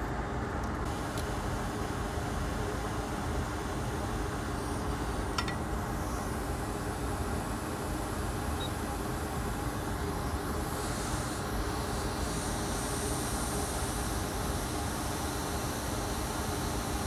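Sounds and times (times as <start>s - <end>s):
hot air station blowing: 0.8s - 17.0s.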